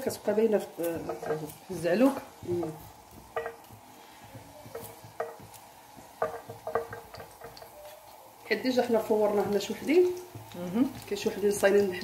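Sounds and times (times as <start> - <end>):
knife tapping on a pan: 0.0 - 7.9, 9.2 - 12.0.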